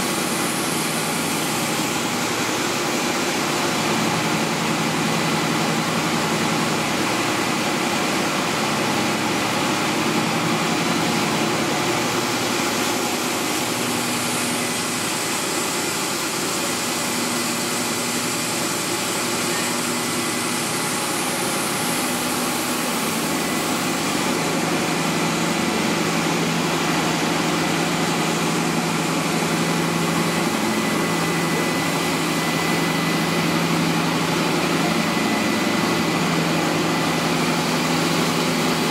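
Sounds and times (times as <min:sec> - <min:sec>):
factory machine drone: 0:00.0 - 0:38.9.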